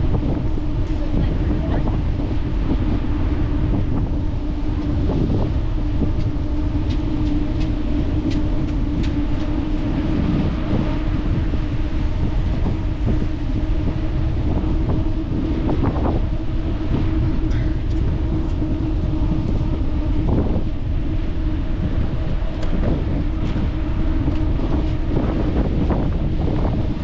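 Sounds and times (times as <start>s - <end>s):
steady hum: 0.0s - 27.0s
wind on microphone: 0.0s - 27.0s.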